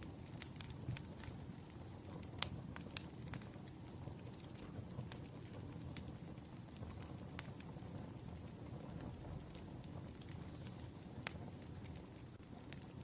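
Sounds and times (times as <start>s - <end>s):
wood fire burning and crackling: 0.0s - 13.0s.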